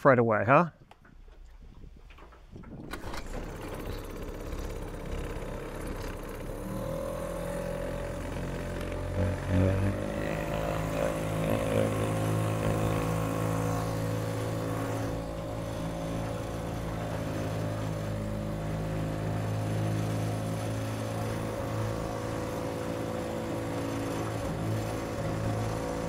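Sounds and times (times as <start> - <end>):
outboard motor running: 1.0 - 26.0.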